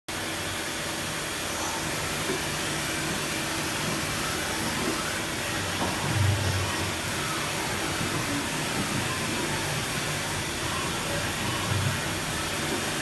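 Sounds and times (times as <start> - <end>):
machine hiss with low hum: 0.1 - 13.0.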